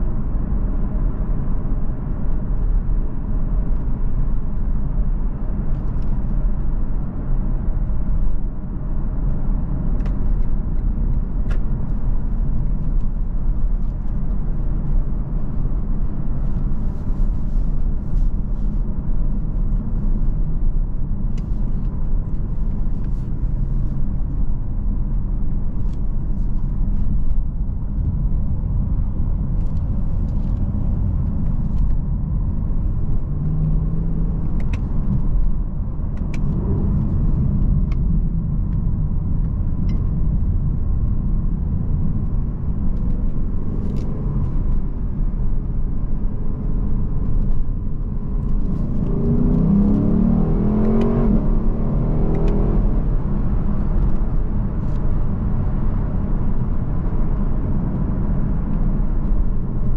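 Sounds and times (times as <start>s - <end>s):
car engine low rumble: 0.0s - 59.9s
road noise: 0.0s - 59.9s.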